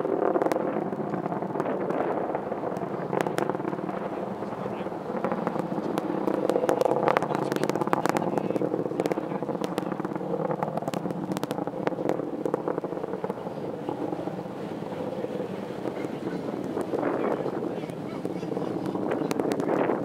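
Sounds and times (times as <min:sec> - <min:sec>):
distant rocket engine rumble: 0:00.0 - 0:20.0.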